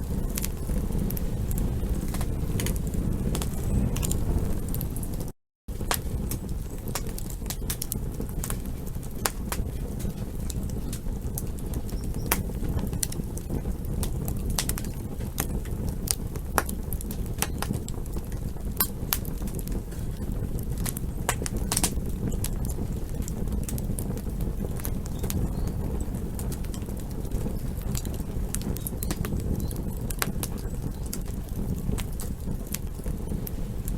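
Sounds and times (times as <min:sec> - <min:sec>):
campfire crackling: 0:00.0 - 0:33.9
low rumble of flames: 0:00.0 - 0:33.9.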